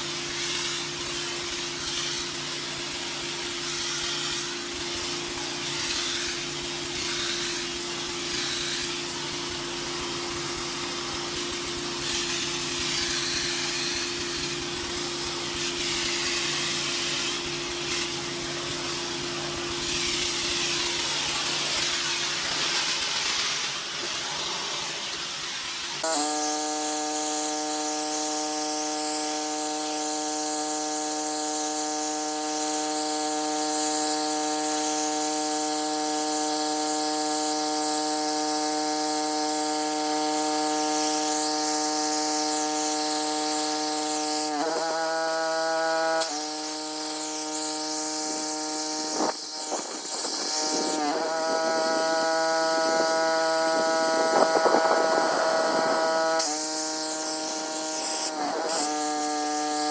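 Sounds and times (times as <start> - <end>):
pressure washer humming: 0.0 - 59.9
water spray hissing: 0.0 - 59.9.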